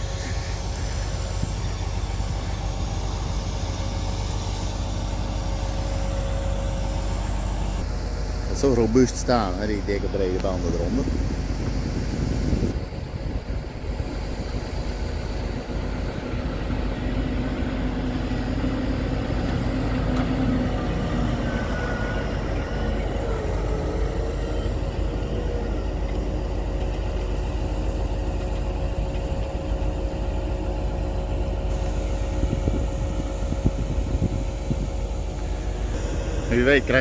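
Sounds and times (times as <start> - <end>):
heavy vehicle engine rumbling: 0.0 - 37.0.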